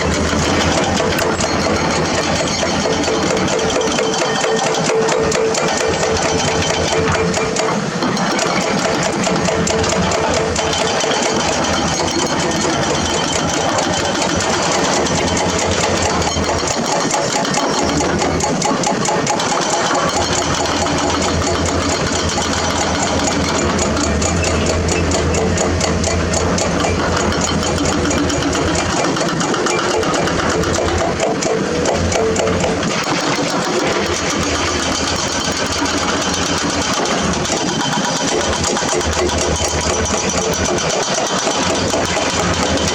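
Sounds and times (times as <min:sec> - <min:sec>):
diesel machinery engines running: 0:00.0 - 0:42.9
rapid mechanical clatter: 0:00.0 - 0:42.9.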